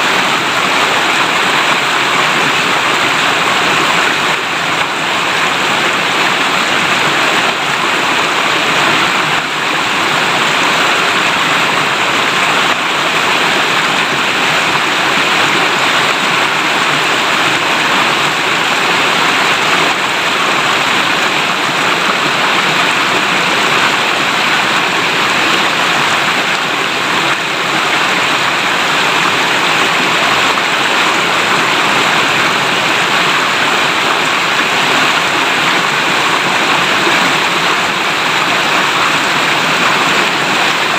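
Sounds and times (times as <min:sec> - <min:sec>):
river water babbling: 0:00.0 - 0:40.9.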